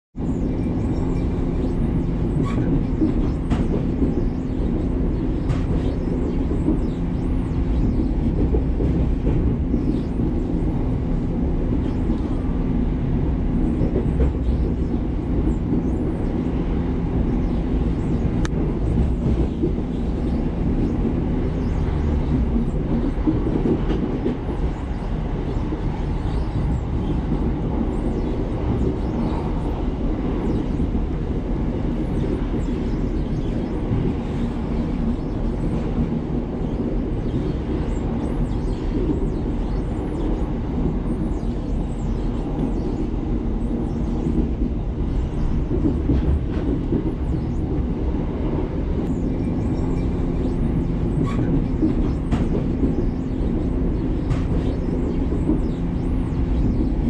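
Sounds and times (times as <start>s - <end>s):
train wheels rumbling on rails: 0.2s - 57.0s.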